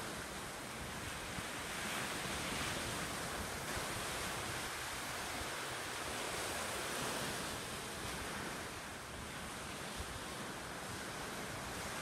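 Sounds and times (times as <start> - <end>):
waves washing onto rocky shore: 0.0 - 12.0
wind rumbling on microphone: 0.0 - 12.0.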